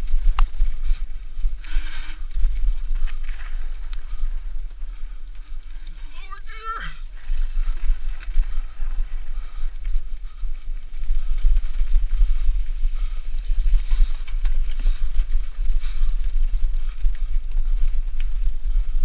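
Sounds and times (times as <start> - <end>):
wind rumble on microphone: 0.0 - 6.1, 6.9 - 19.0
bike clicks and rattles: 0.0 - 19.0
mountain bike rolling over trail: 0.0 - 19.0.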